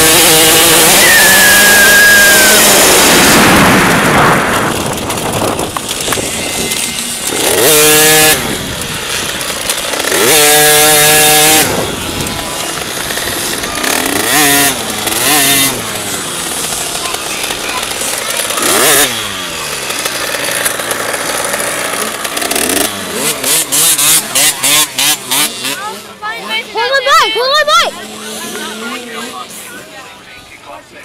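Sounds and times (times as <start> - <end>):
dirt bike engine revving: 0.0 - 30.3.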